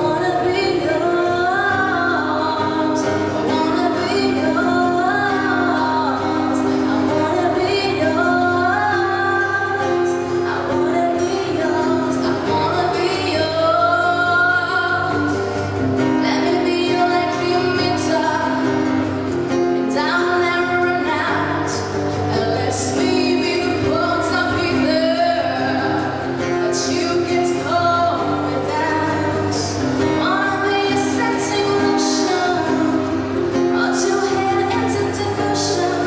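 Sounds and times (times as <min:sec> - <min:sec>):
strummed acoustic guitar: 0:00.0 - 0:36.0
woman singing: 0:00.0 - 0:36.0.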